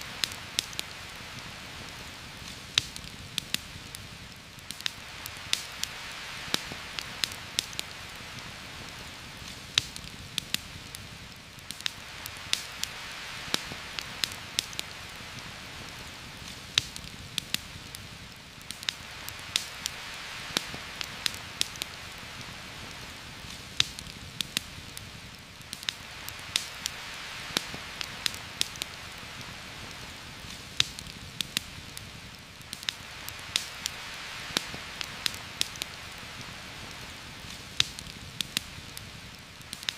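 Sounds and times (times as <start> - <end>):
sharp pops and ticks: 0.0 - 22.0, 22.8 - 39.9
heavy rain falling: 0.0 - 39.9.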